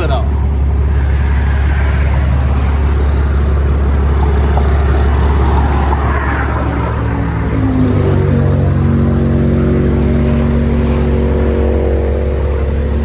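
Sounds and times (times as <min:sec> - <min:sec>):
expressway traffic rumble: 0:00.0 - 0:13.0.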